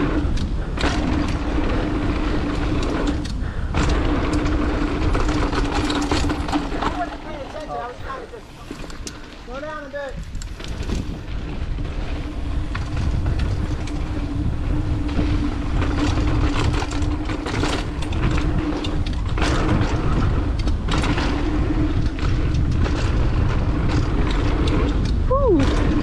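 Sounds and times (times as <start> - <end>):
bike knocks and rattles: 0.0 - 26.0
bike tyre rumble on dirt: 0.0 - 26.0
wind on microphone: 0.0 - 26.0.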